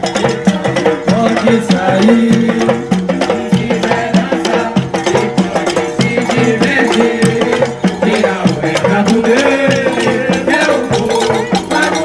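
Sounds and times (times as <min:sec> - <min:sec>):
frame drums beating: 0:00.0 - 0:12.0
wood block clacking: 0:00.0 - 0:12.0.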